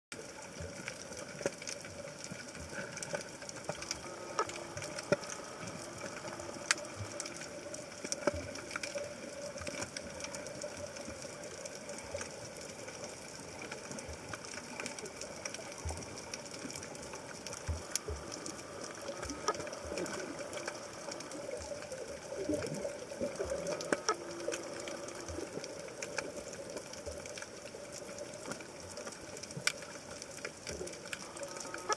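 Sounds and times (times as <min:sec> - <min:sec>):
sharp clicks and crackles: 0:00.1 - 0:31.9
underwater hum: 0:00.1 - 0:31.9.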